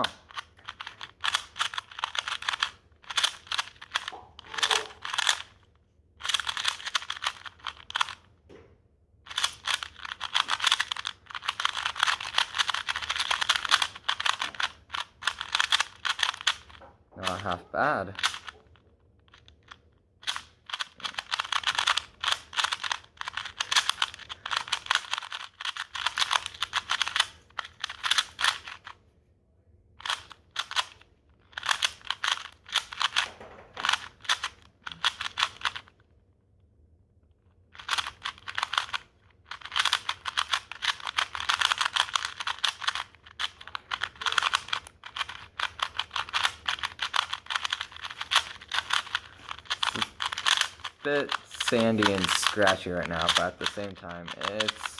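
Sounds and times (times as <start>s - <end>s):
speed cube clicking: 0.0s - 8.3s, 9.2s - 29.0s, 30.0s - 36.0s, 37.7s - 54.9s.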